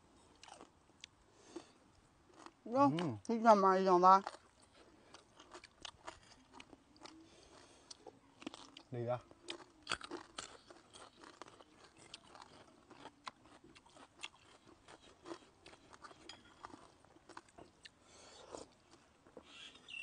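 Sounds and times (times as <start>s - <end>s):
people chewing crunchy vegetables: 0.1s - 20.0s.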